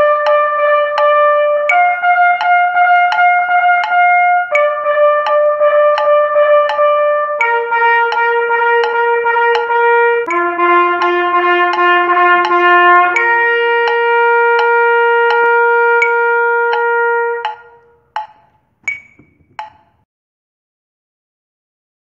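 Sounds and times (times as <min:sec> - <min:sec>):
trumpet playing: 0:00.0 - 0:19.2
metronome clicking: 0:00.0 - 0:20.0.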